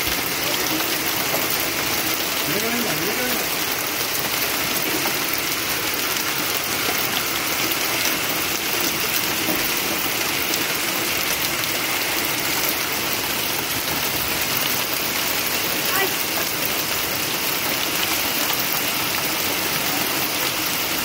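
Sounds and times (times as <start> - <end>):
hail ticking on metal: 0.0 - 21.0
rain hissing: 0.0 - 21.0.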